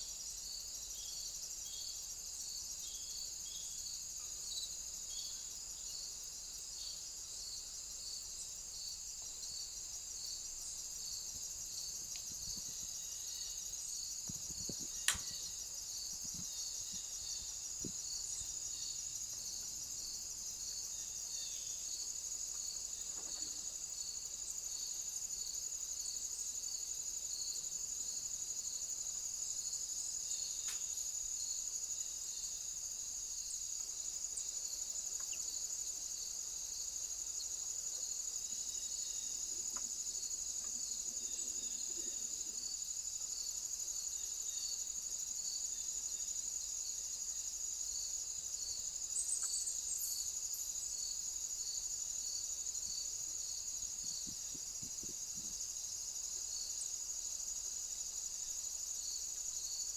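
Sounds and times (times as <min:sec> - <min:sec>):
crickets trilling: 0:00.0 - 0:59.9
slower pulsing insect call: 0:00.0 - 0:59.9.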